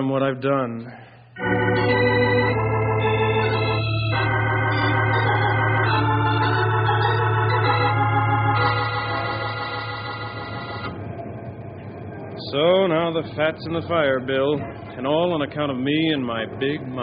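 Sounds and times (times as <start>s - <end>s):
organ chords: 1.3s - 17.0s
low held organ note: 1.4s - 17.0s.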